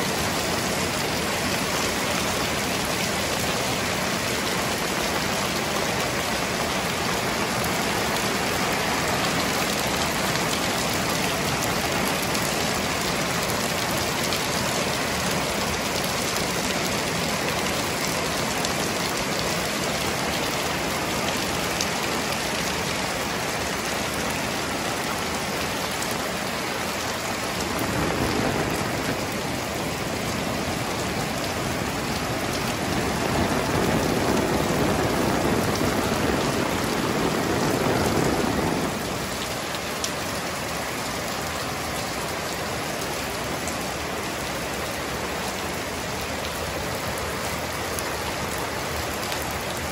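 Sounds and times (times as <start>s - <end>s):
heavy rain on wet paving: 0.0s - 49.9s.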